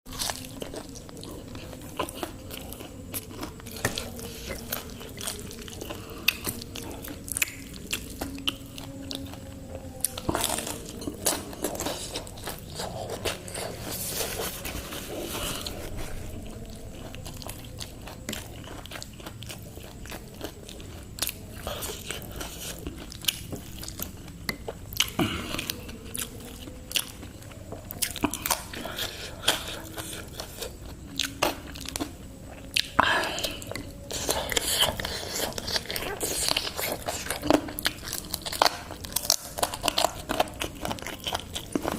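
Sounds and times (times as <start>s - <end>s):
crunchy chewing of fried chicken: 0.1s - 41.9s.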